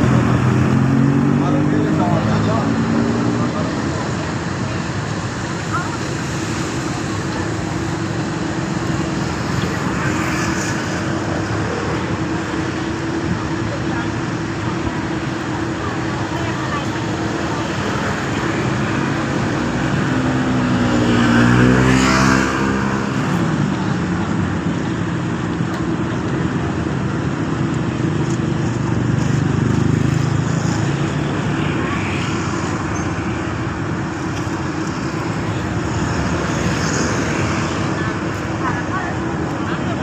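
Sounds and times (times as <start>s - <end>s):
engine passing close: 0.0s - 40.0s
traffic rumble: 0.0s - 40.0s.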